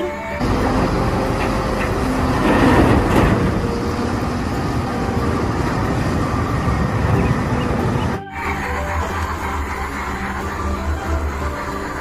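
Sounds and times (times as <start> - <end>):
diesel engine running hard: 0.2 - 12.0.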